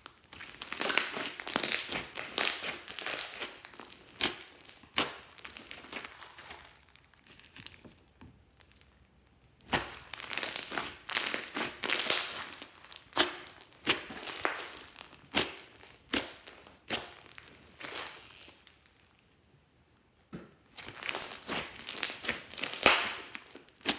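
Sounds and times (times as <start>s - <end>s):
slime squeezed by hand: 0.3s - 7.8s, 9.6s - 18.8s, 20.7s - 23.9s.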